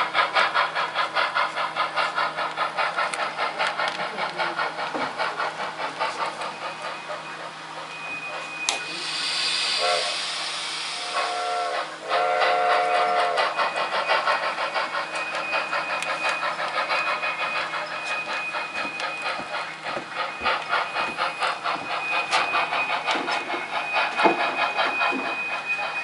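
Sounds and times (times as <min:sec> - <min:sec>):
model locomotive chuffing: 0:00.0 - 0:26.0.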